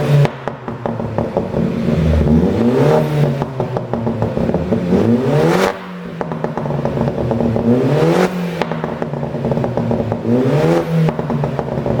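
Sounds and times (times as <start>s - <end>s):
car engine revving: 0.0s - 12.0s
exhaust crackles and pops: 0.0s - 12.0s.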